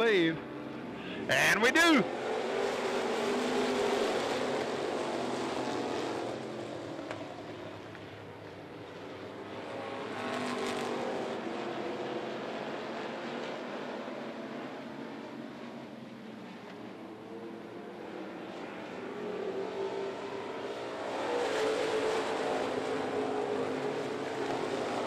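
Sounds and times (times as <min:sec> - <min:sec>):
race car engines accelerating: 0:00.0 - 0:25.0.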